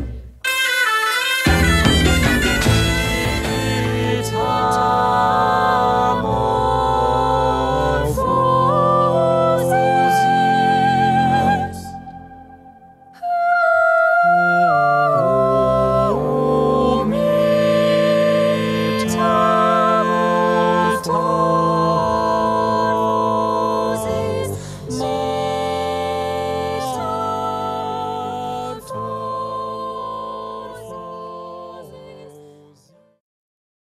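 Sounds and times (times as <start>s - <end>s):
sustained instrumental tones: 0.4s - 29.9s
voices singing in harmony: 1.5s - 33.2s.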